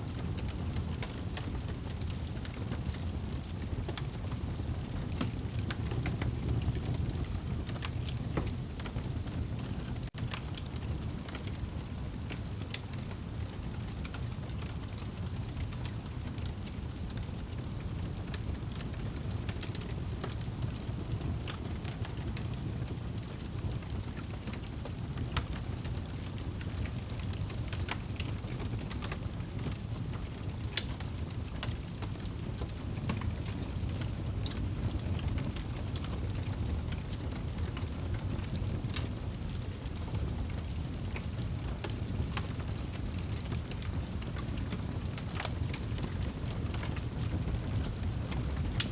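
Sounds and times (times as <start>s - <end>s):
steady rain: 0.0s - 48.9s
fire crackling and popping: 0.1s - 48.9s.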